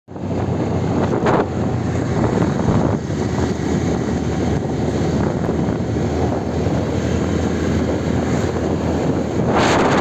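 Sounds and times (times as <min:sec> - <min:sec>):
wind rushing over microphone: 0:00.1 - 0:10.0.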